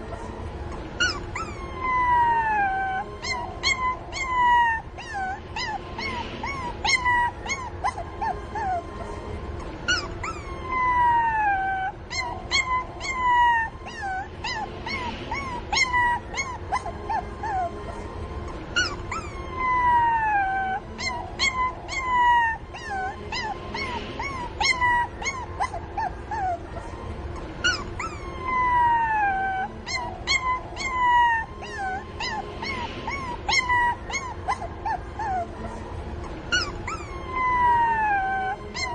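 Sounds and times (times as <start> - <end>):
puppies whining and yelping: 0.0 - 38.9.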